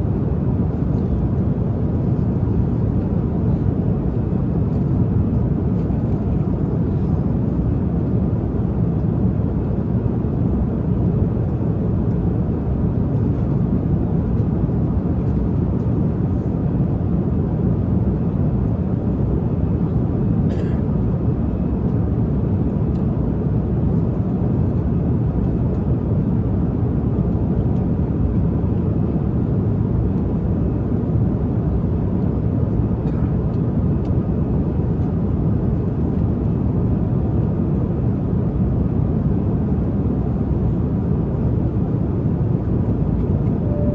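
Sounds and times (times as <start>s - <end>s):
airliner cabin rumble: 0.0s - 43.9s.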